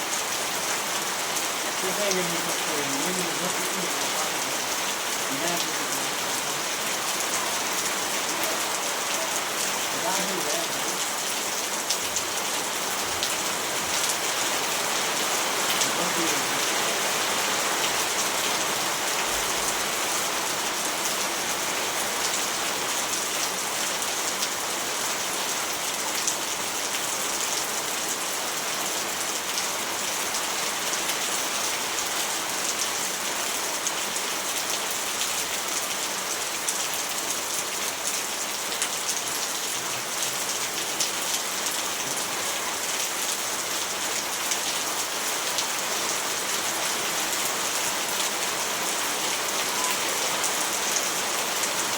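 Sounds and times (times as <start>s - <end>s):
rain pattering on surfaces: 0.0s - 51.9s.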